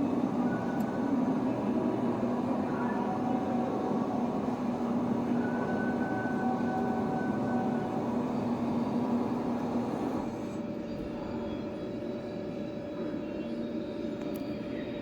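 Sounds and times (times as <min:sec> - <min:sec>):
high machine whine: 0:00.0 - 0:15.0
lathe mechanical hum: 0:00.0 - 0:15.0.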